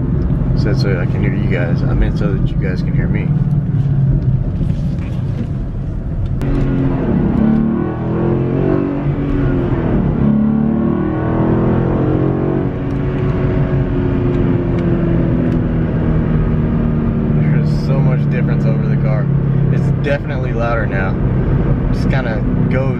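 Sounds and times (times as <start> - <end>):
car engine from inside cabin: 0.0 - 22.9.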